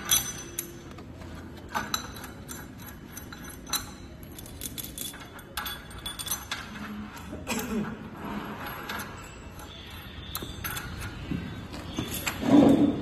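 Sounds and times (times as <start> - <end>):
steel fittings clinking: 0.0 - 7.8, 8.4 - 13.0.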